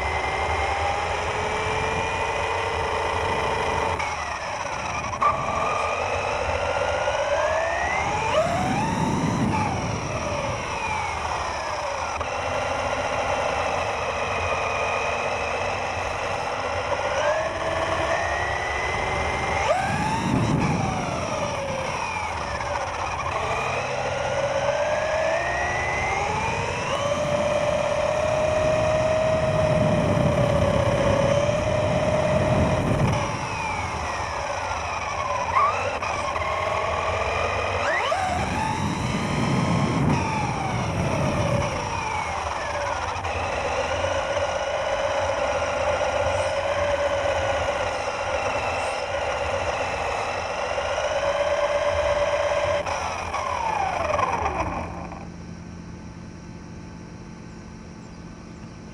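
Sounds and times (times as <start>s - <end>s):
toy car motor whining: 0.0s - 55.6s.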